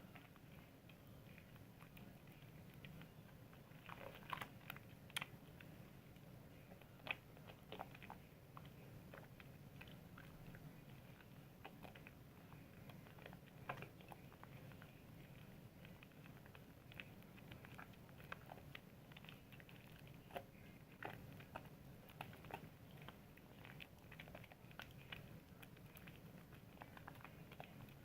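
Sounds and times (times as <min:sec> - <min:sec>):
soap lather squishing: 0:00.0 - 0:28.0.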